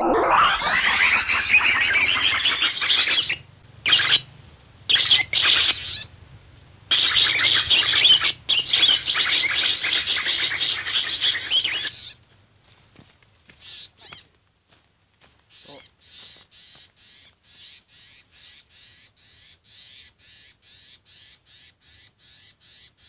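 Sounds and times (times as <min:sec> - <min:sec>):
small birds twittering and chirping: 0:00.6 - 0:12.8, 0:13.4 - 0:14.4, 0:15.2 - 0:23.0.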